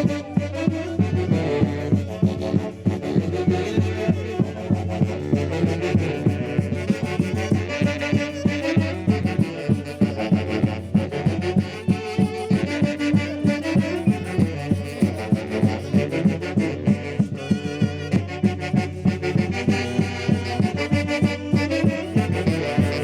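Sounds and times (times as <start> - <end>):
steady drum beat: 0.0 - 23.0
wind instruments: 0.0 - 23.0.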